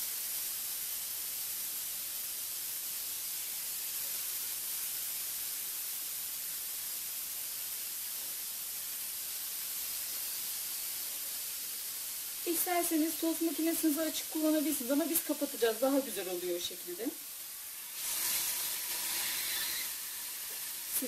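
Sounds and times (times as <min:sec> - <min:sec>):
chicken sizzling on grill: 0:00.0 - 0:21.0.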